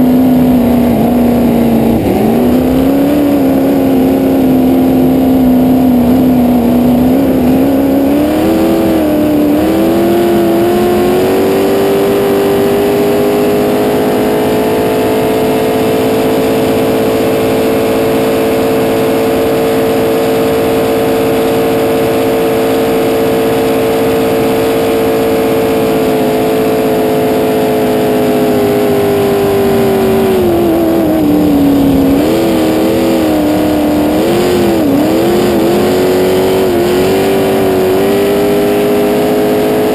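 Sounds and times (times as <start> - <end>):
boat engine at high revs: 0.0 - 39.9.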